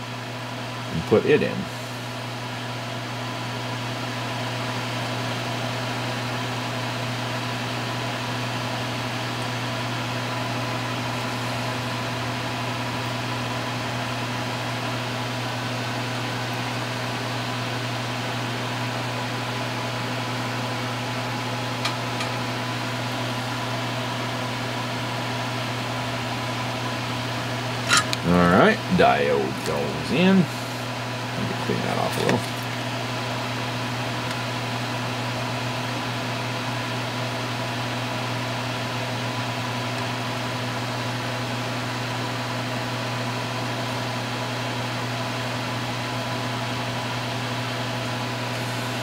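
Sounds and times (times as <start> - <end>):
extractor fan humming: 0.0 - 49.0.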